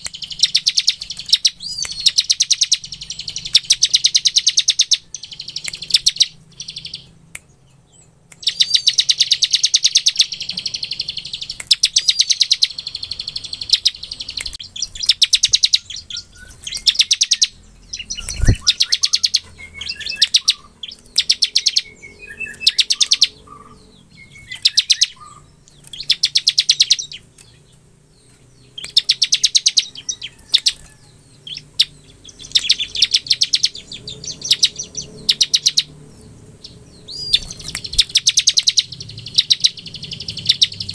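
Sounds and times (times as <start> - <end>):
bird rapid drilling trill: 0.0 - 7.2, 8.4 - 27.7, 28.7 - 40.9.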